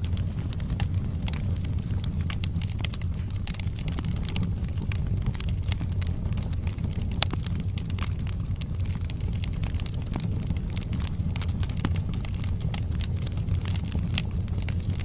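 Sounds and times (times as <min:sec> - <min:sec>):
fire roaring and crackling: 0:00.0 - 0:15.0.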